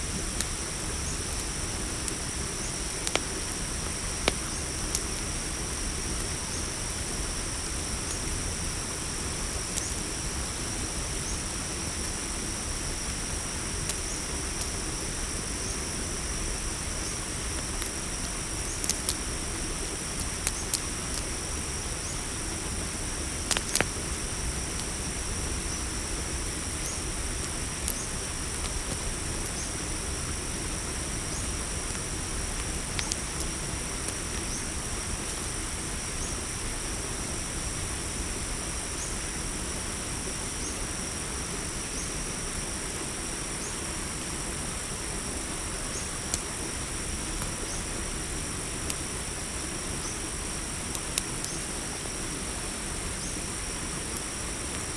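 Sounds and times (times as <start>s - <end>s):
campfire popping: 0.0s - 39.4s, 43.8s - 53.4s
cricket chorus: 0.0s - 54.9s
low hiss: 0.0s - 54.9s.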